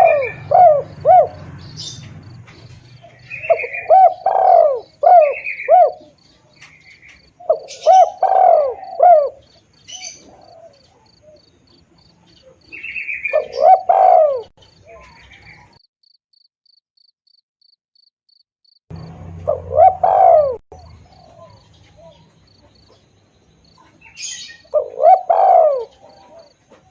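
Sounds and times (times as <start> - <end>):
dove cooing: 0.0 - 15.6, 19.3 - 23.0, 23.8 - 26.9
high chirping: 0.0 - 26.6.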